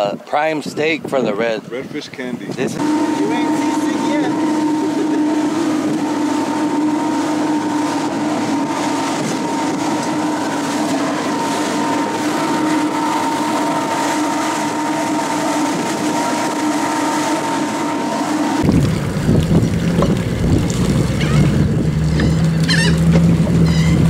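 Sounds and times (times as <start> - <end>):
wind rushing: 2.3 - 22.0
boat motor droning: 2.5 - 24.0.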